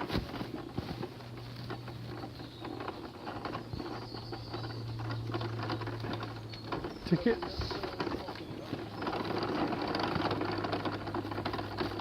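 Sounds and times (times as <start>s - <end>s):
wheels rolling over gravel: 0.0s - 12.0s.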